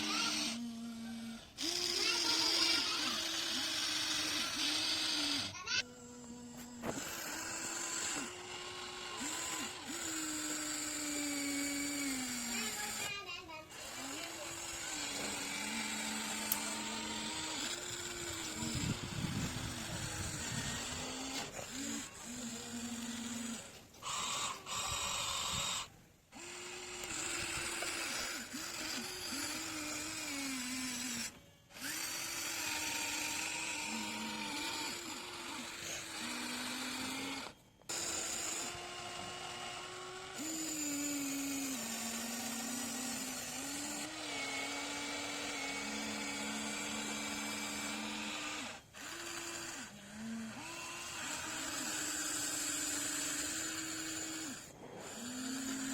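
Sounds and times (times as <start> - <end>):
toy excavator motors whining: 0.0 - 55.9.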